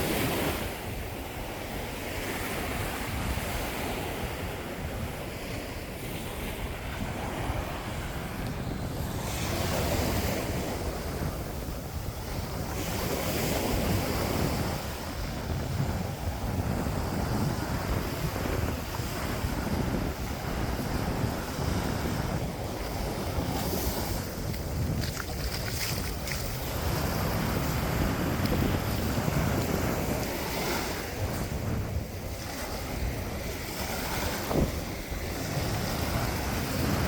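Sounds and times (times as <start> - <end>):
ocean waves washing onto beach: 0.0 - 37.0
wind buffeting microphone: 0.0 - 37.0.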